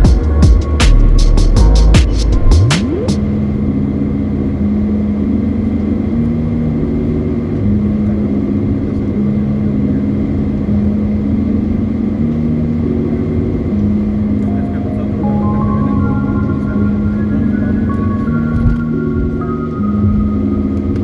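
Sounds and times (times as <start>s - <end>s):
low held tones stepping in pitch: 0.0s - 7.8s, 11.9s - 21.0s.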